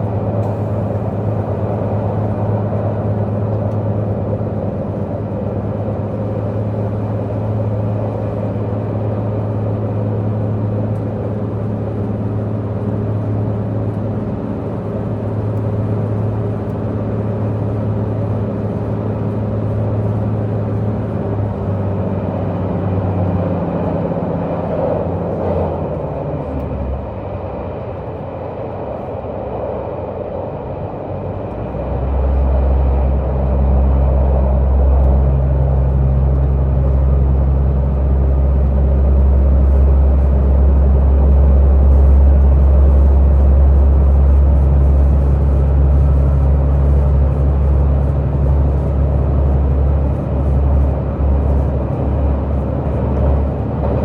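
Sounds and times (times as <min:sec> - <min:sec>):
train diesel engine droning: 0:00.0 - 0:54.0.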